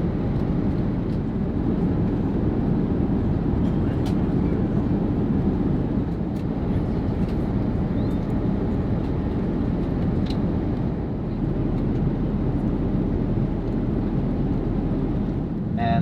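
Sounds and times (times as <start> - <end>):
airplane cabin roar: 0.0 - 16.0.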